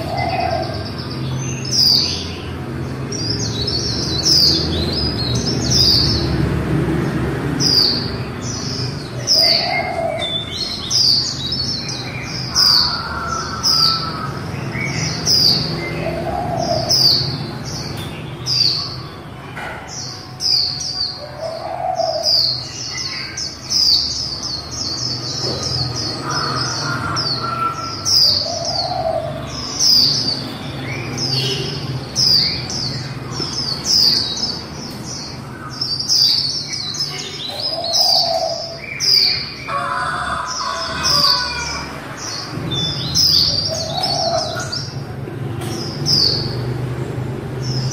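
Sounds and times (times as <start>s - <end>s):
bird chirping high: 0.0s - 6.5s, 7.4s - 46.7s.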